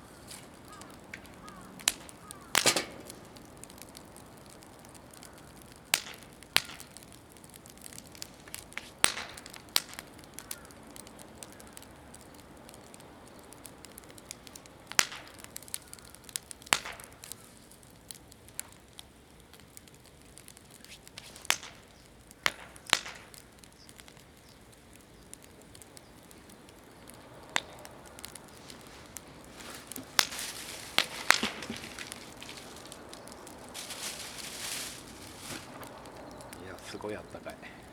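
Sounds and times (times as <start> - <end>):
faint steady hiss: 0.0 - 37.9
wood fire crackling and popping: 0.0 - 37.9.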